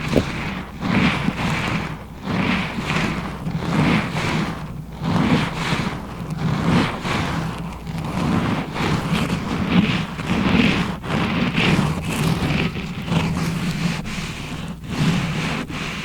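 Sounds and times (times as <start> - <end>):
rubbing and scratching on microphone: 0.0 - 16.0.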